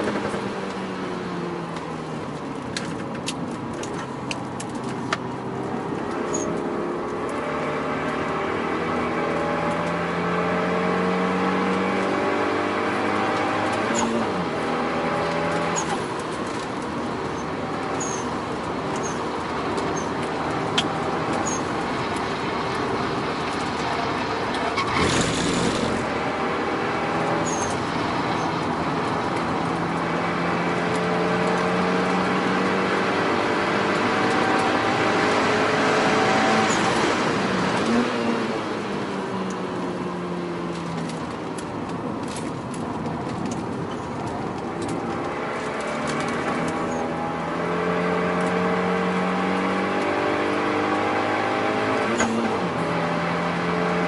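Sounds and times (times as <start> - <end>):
car engine pulling under load: 1.7 - 54.0.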